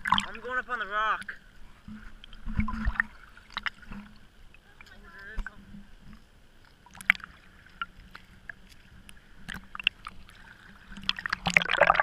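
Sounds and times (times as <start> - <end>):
water lapping against camera housing: 0.0 - 12.0.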